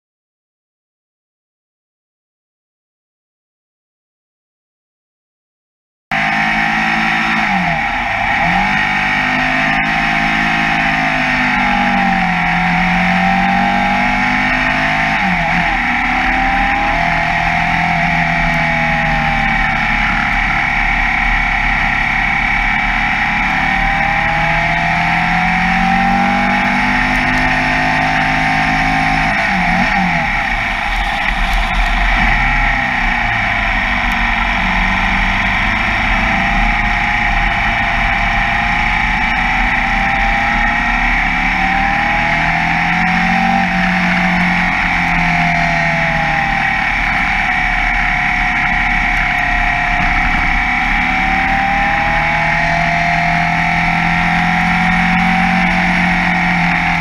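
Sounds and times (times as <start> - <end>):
racing car engine revving: 6.1 - 57.0.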